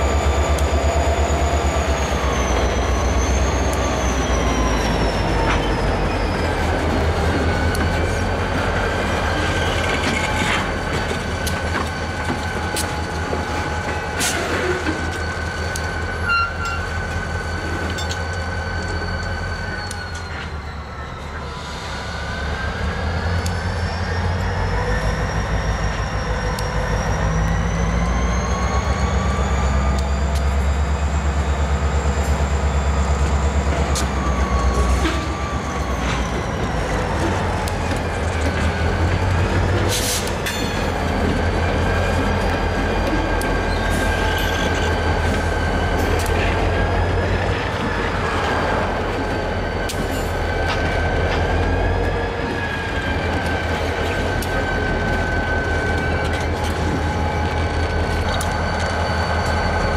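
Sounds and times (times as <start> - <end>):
diesel locomotive engine throb: 0.0 - 59.9
wheel flange squeal: 0.0 - 59.9.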